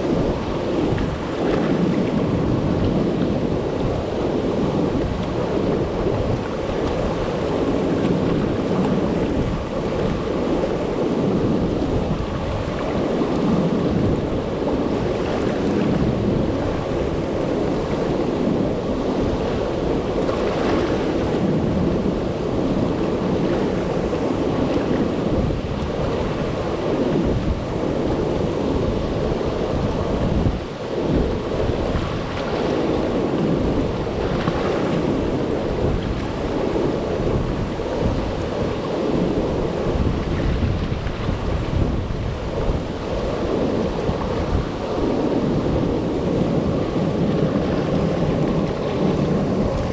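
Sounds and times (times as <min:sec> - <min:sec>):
water rushing over dam: 0:00.0 - 0:49.9.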